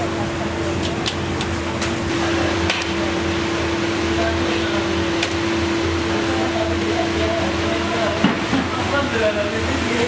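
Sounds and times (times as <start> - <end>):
machine hum with droning tone: 0.0 - 10.0.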